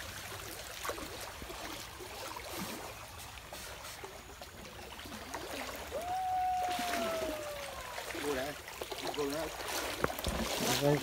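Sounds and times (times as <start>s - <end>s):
stream flowing and trickling: 0.0s - 11.0s.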